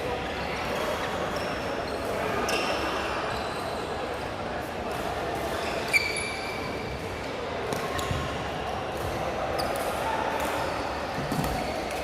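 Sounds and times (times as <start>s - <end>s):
indoor hall noise: 0.0s - 12.0s.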